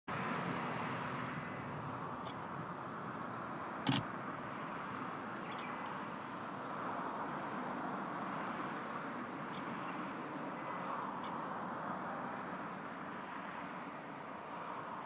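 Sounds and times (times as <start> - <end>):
outdoor background rush: 0.1 - 15.0.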